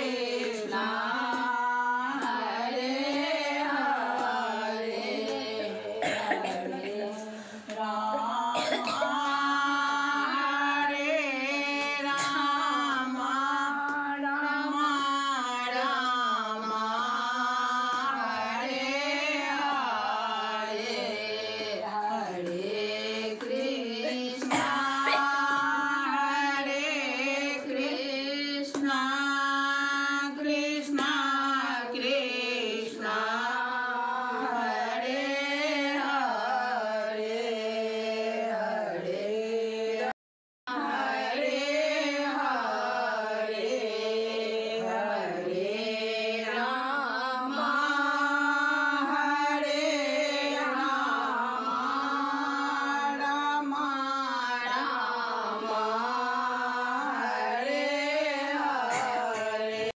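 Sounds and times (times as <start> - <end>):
woman singing devotional song: 0.0 - 59.9.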